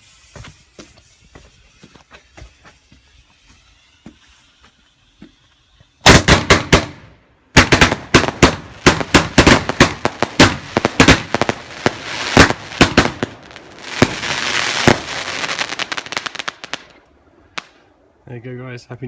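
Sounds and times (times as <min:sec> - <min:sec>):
firework bangs: 0:00.0 - 0:17.9
firework crackling: 0:00.0 - 0:18.0.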